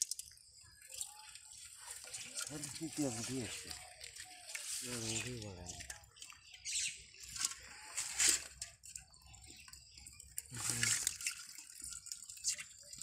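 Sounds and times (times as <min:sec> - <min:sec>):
wet fish flapping in metal pot: 0:00.0 - 0:13.0.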